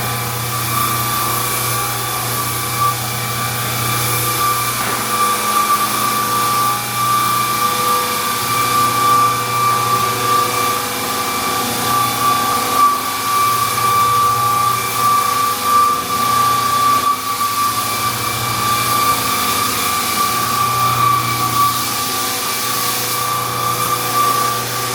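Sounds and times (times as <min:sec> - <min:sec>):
floor sander whining and grinding: 0:00.0 - 0:24.9.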